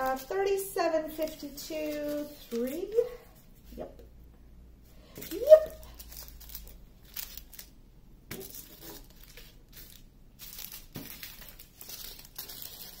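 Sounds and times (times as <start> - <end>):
plastic bags crinkling: 0.0 - 3.2, 5.0 - 13.0.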